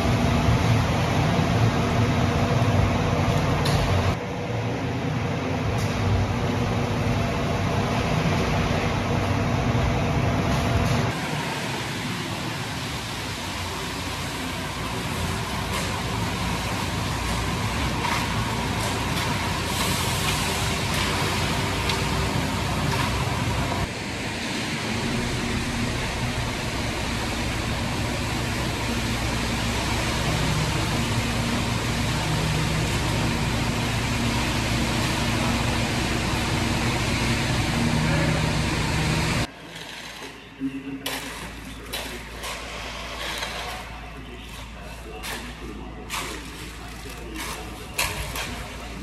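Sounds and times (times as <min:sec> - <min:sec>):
concrete mixer truck running: 0:00.0 - 0:49.0.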